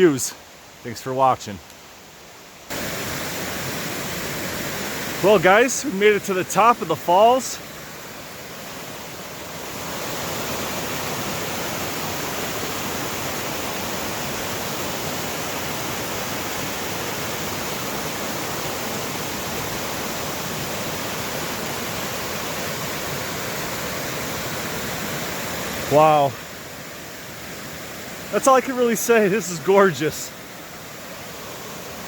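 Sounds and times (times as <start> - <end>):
waterfall rushing: 2.7 - 32.0.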